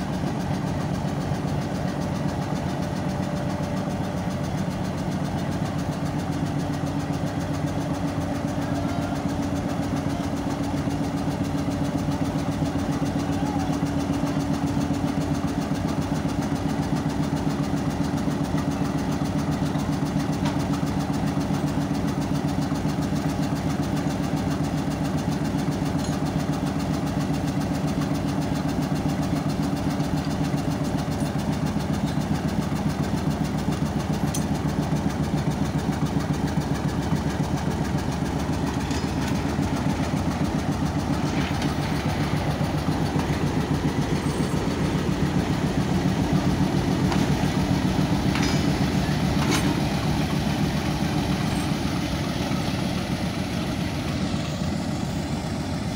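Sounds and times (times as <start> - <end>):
diesel locomotive engine idling: 0.0 - 55.9.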